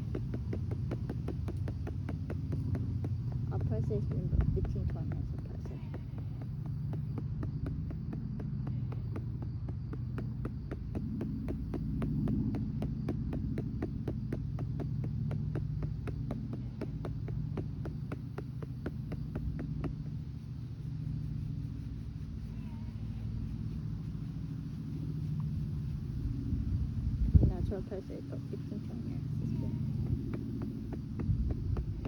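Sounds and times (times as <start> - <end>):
low steady hum: 0.0 - 32.0
rhythmic pats on doll's back: 0.0 - 32.0.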